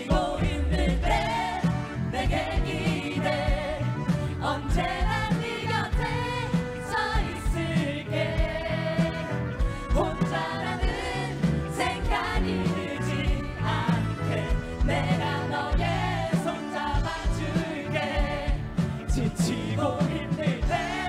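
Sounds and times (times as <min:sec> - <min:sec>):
pop song with singing: 0:00.0 - 0:21.0.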